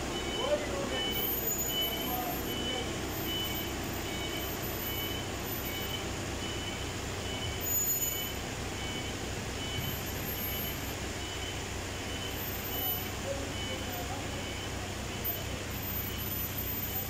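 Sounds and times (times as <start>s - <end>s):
engine rumbling: 0.0s - 17.0s
reversing alarm beeping: 0.0s - 17.0s.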